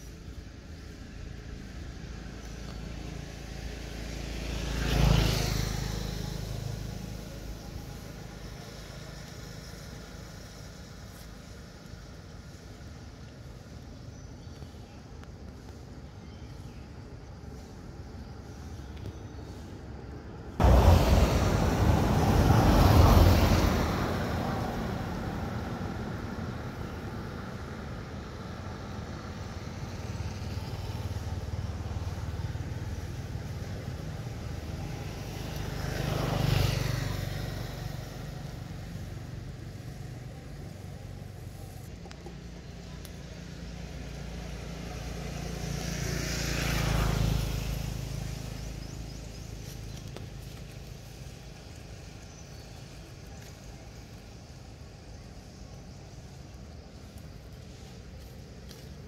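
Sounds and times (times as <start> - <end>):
traffic hum: 0.0 - 59.0
vehicle passing close by: 2.0 - 10.8, 20.4 - 59.0.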